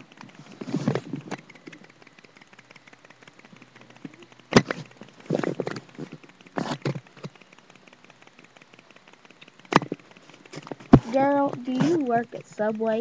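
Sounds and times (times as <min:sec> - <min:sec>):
sharp click: 0:00.0 - 0:12.1
faint background hiss: 0:00.0 - 0:13.0.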